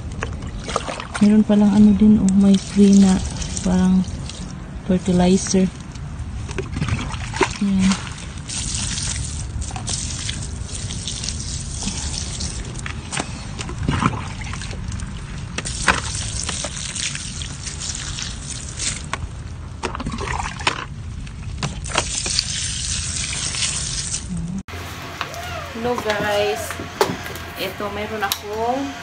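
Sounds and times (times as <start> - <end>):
water splashing on plants: 0.0 - 24.4.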